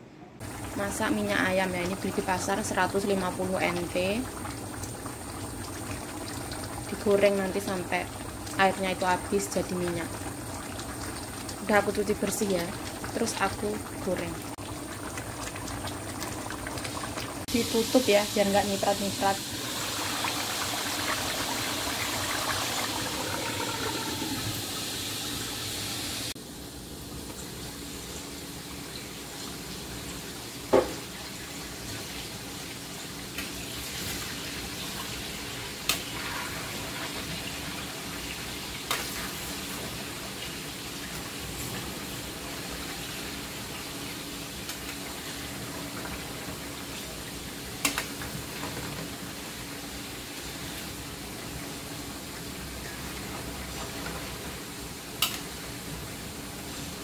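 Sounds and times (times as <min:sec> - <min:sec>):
fat sizzling in a frying pan: 0:00.4 - 0:26.4, 0:27.3 - 0:57.0.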